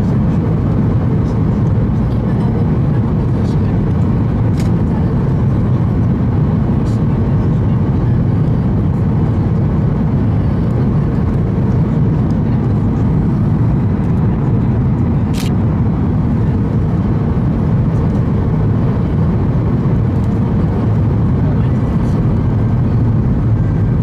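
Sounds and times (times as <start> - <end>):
airplane cabin roar: 0.0 - 24.0.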